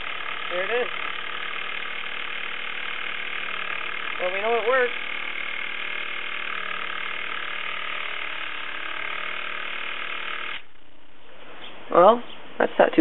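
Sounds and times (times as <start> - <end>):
model steam engine buzzing: 0.0 - 10.8.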